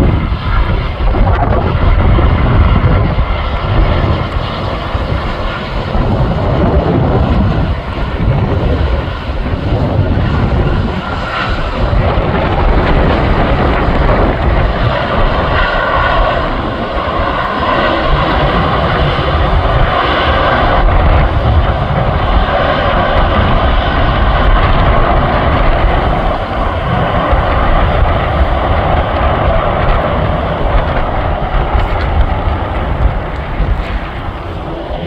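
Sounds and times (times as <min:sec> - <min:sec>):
jet engine whine: 0:00.0 - 0:35.0
jet engines rumbling: 0:00.0 - 0:35.0.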